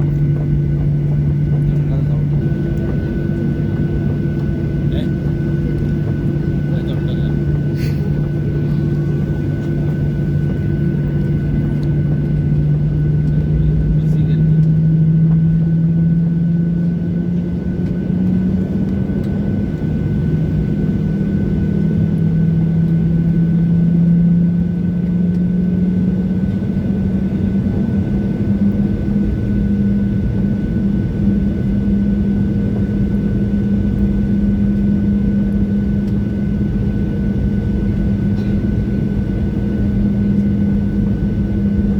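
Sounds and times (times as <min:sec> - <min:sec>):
jet engines humming in cabin: 0:00.0 - 0:41.9.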